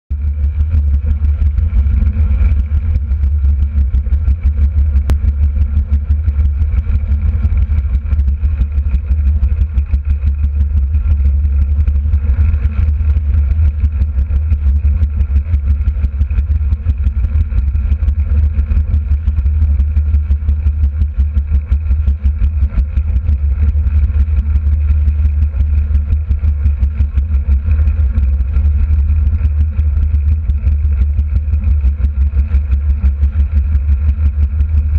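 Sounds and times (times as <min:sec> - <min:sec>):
small engine droning: 0:00.1 - 0:34.9
wind rumble on microphone: 0:00.1 - 0:34.9.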